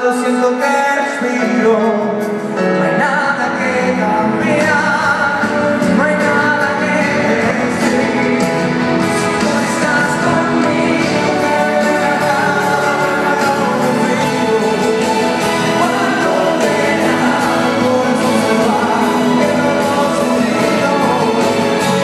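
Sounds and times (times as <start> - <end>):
live band playing pop ballad: 0.0 - 22.0
person singing: 0.0 - 22.0.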